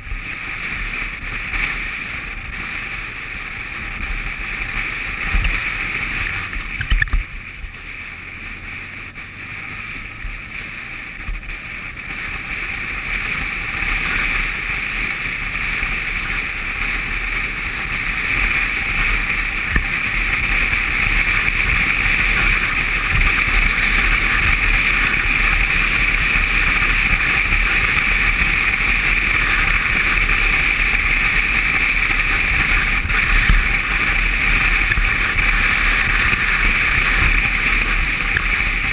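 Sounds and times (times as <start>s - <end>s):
motorcycle engine and tyre noise: 0.0s - 38.9s
wind rushing over microphone: 0.0s - 38.9s.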